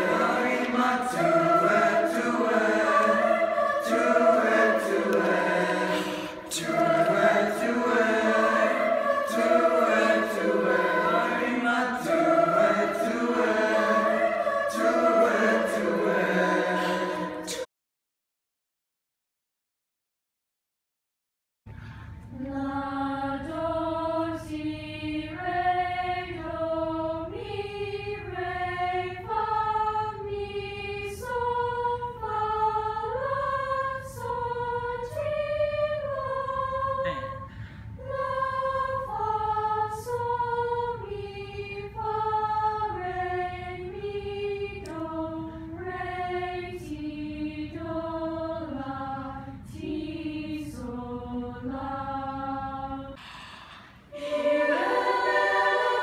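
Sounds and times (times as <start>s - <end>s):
choir singing a scale: 0.0s - 17.7s, 22.4s - 53.2s, 54.1s - 56.0s.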